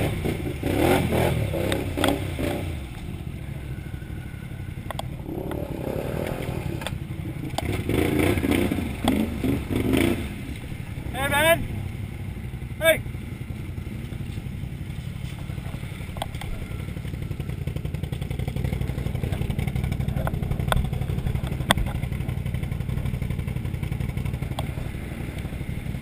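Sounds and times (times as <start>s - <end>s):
atv engine idling: 0.0s - 26.0s.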